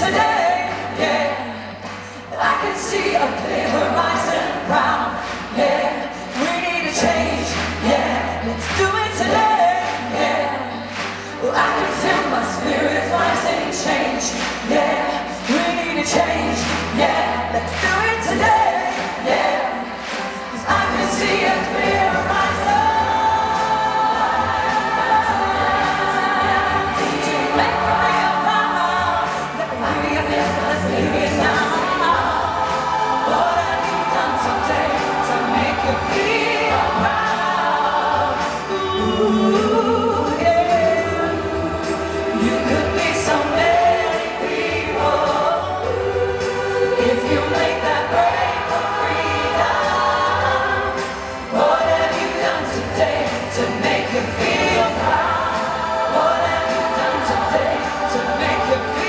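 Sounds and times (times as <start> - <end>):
choir singing pop song: 0.0 - 59.0.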